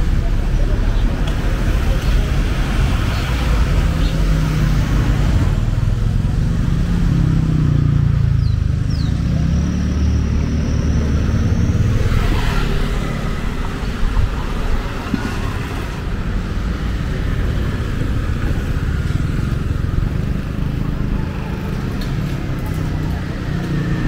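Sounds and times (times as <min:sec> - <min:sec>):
car engines passing: 0:00.0 - 0:24.0
constant low traffic rumble: 0:00.0 - 0:24.0
motorbike engines passing: 0:00.0 - 0:24.0.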